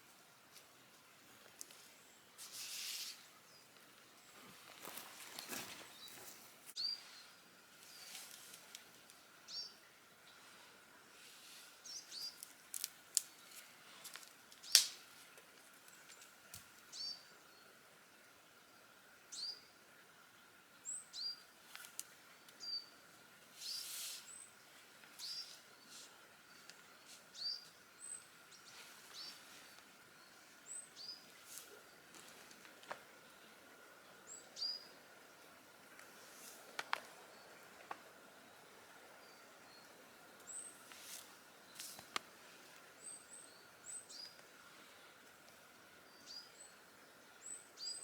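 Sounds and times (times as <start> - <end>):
small birds chirping: 1.4 - 17.7, 20.8 - 48.0.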